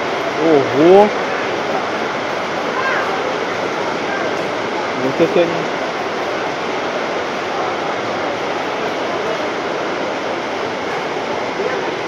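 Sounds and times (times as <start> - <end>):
heavy rain on roof: 0.0 - 12.0.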